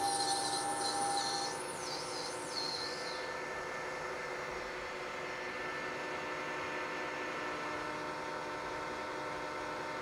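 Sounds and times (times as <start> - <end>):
metal lathe running with whine: 0.0 - 10.0.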